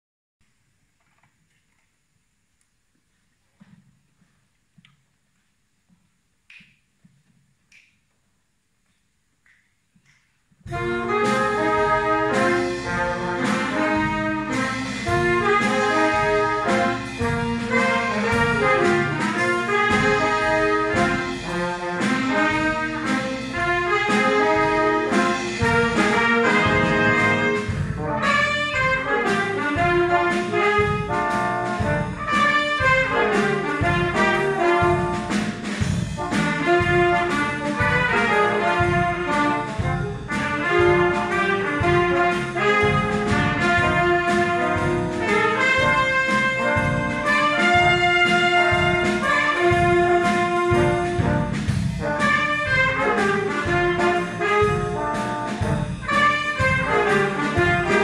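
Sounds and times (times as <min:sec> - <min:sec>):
wind band playing: 0:10.6 - 0:58.0.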